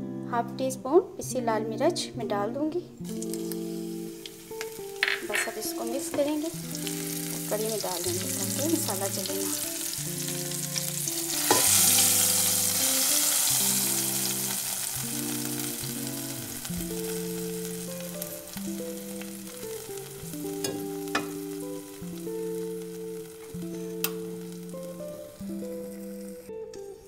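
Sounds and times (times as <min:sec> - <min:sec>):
hot oil sizzling: 0:03.0 - 0:27.0.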